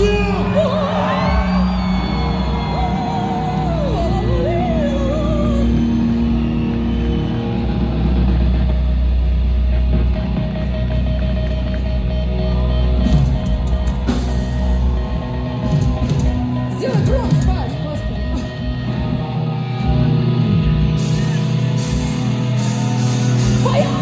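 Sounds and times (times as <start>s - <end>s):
crowd shouting: 0.0s - 8.4s, 12.5s - 24.0s
rock band playing live: 0.0s - 24.0s.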